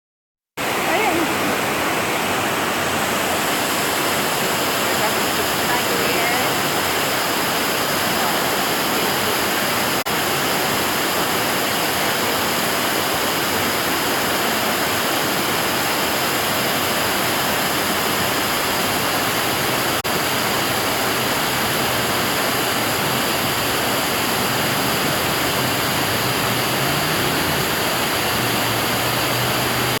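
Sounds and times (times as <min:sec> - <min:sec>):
river water rushing: 0:00.6 - 0:30.0.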